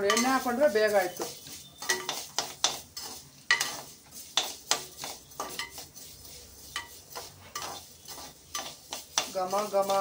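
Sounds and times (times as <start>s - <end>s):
metal ladle scraping metal pot: 0.0s - 10.0s.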